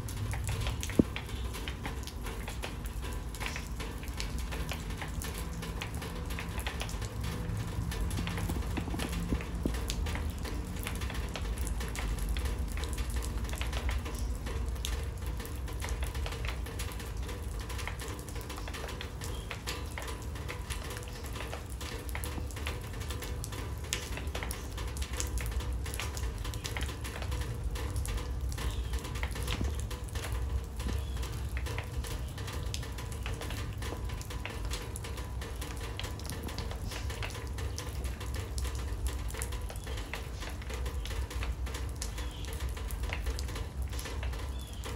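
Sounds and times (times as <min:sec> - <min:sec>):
rain pattering on water and paving: 0:00.0 - 0:44.9.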